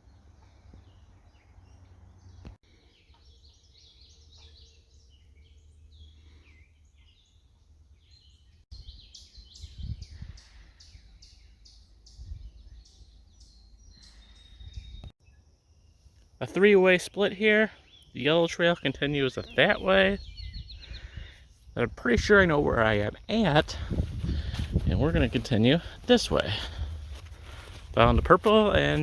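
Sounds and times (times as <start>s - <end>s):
birds chirping and singing: 0.1s - 15.5s, 16.4s - 29.0s.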